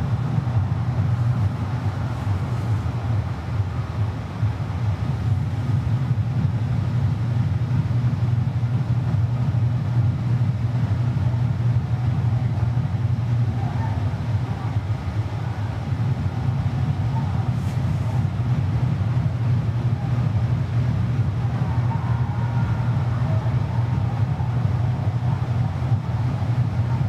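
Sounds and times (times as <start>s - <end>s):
low rumble of harbour ambience: 0.0s - 27.0s.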